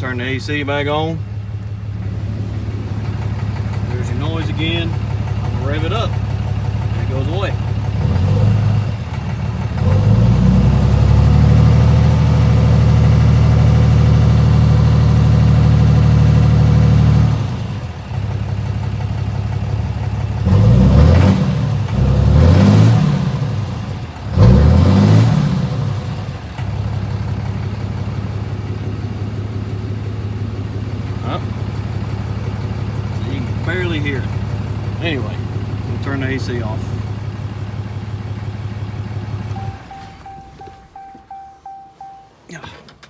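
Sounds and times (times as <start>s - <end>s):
diesel engine revving and idling: 0.0s - 43.0s.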